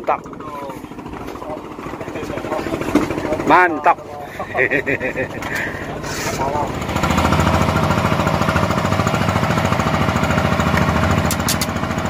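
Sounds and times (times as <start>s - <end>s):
boat engine knocking: 0.0s - 12.0s.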